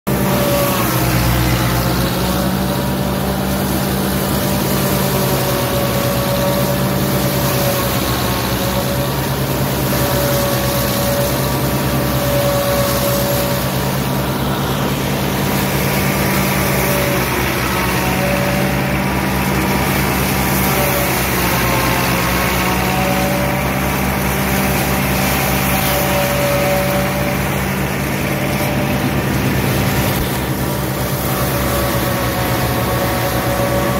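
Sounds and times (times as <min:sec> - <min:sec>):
tractor diesel engine under load: 0:00.0 - 0:33.9
forage harvester chopping grass: 0:00.1 - 0:33.9
wavering whine: 0:00.1 - 0:33.9.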